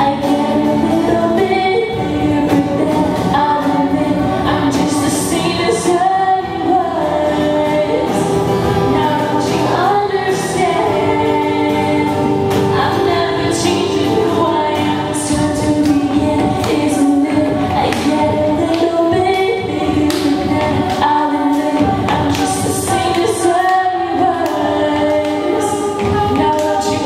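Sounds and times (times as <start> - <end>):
female vocal group singing harmony: 0.0 - 27.0.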